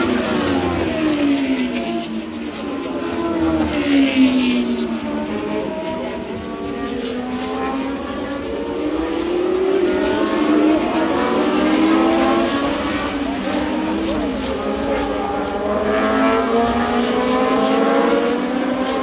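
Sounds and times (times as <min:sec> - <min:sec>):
race cars passing at high revs: 0:00.0 - 0:19.0.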